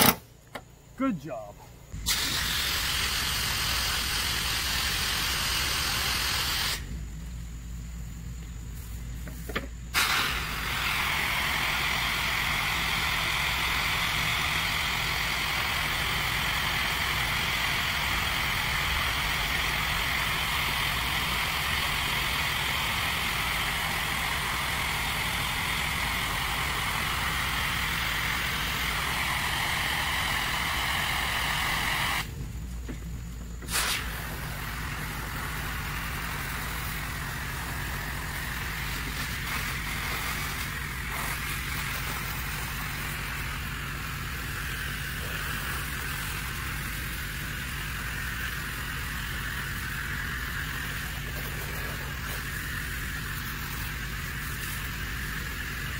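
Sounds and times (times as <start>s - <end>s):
pressure washer water jet hissing: 1.9s - 7.0s, 8.7s - 32.4s, 33.6s - 55.9s
low engine hum: 6.8s - 55.9s.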